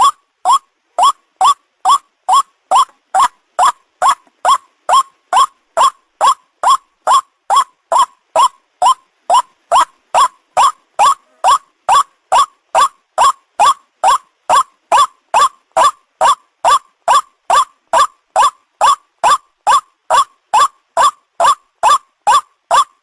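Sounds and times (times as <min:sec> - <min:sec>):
waterhen calling: 0:00.0 - 0:23.0.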